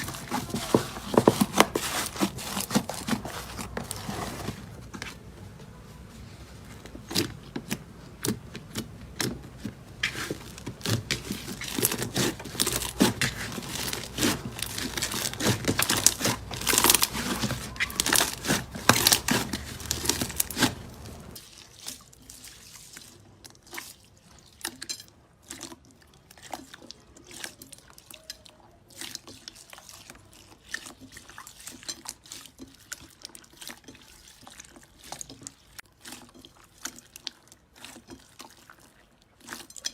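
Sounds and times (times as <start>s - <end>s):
slime squishing and crackling: 0.0s - 4.8s, 6.8s - 39.9s.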